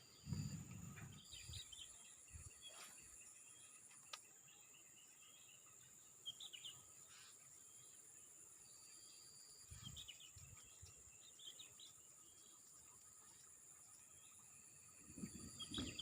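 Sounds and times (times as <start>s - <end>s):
insect chorus buzzing: 0.0s - 16.0s
short insect chirps: 0.0s - 16.0s.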